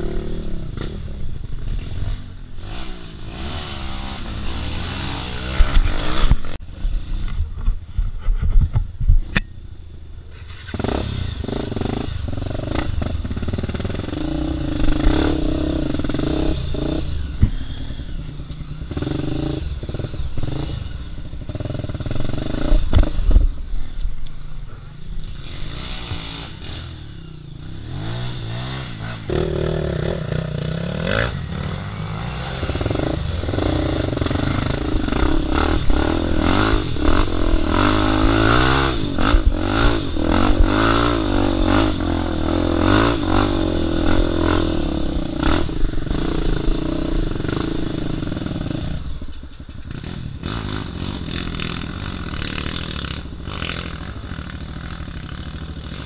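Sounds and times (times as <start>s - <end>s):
dirt bike engine revving: 0.0s - 7.6s, 10.4s - 56.0s.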